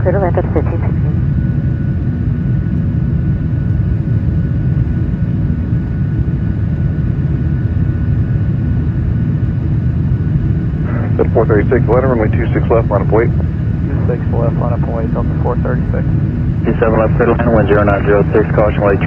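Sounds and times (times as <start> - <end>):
faint steady whine: 0.0 - 19.0
jet engine and airflow rumble: 0.0 - 19.0.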